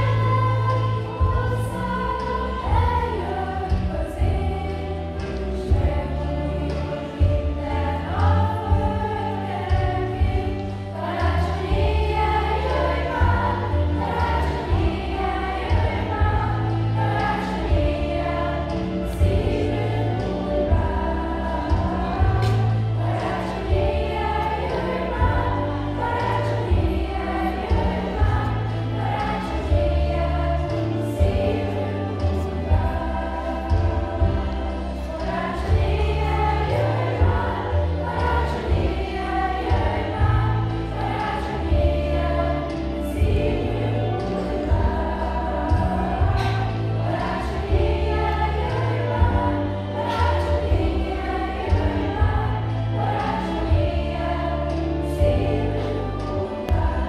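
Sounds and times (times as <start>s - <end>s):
children's choir singing: 0.0s - 57.0s
instrumental accompaniment with bass: 0.0s - 57.0s
percussion hits: 7.1s - 42.1s, 42.7s - 54.2s.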